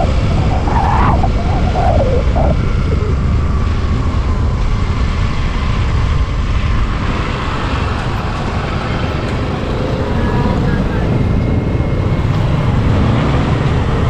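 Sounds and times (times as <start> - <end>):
scooter engine and road noise: 0.0 - 14.0
wind rumble on microphone: 0.0 - 14.0.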